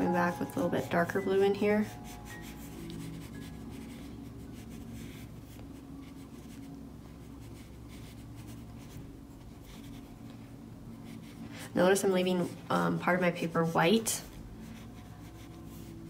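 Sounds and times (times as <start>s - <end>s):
brush rubbing on paper: 0.3s - 12.6s, 14.2s - 16.0s.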